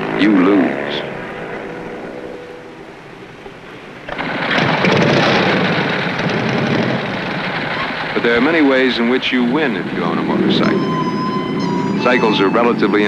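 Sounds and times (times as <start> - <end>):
motorcycle riding away: 0.0 - 13.0
rough motorcycle engine rumble: 0.0 - 13.0.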